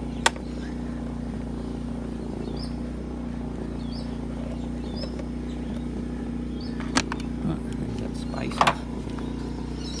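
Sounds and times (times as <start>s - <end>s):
petrol generator humming: 0.0s - 10.0s.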